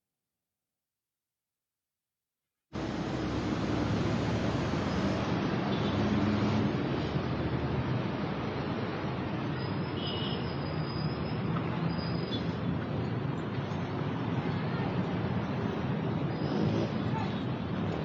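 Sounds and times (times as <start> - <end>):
road traffic hum and tyre noise: 2.8 - 18.0.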